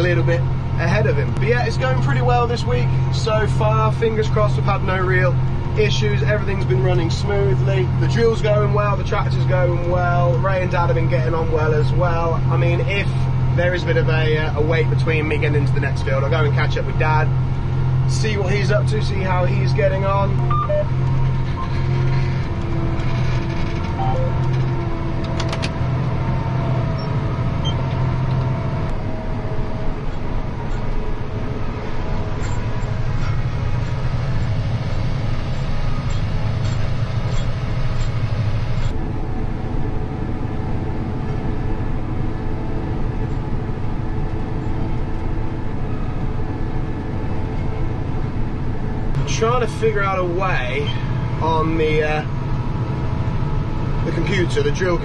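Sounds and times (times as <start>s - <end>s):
tractor engine drone: 0.0s - 55.0s.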